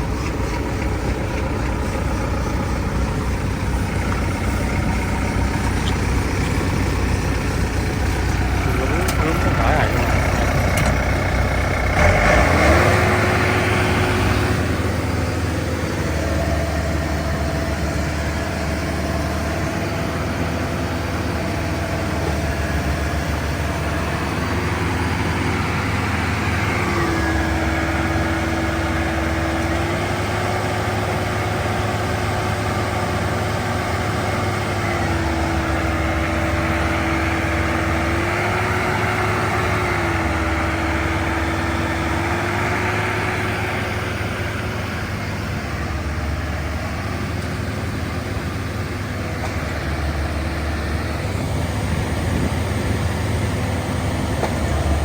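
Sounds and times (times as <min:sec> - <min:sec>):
farm machine engine under load: 0:00.0 - 0:55.0.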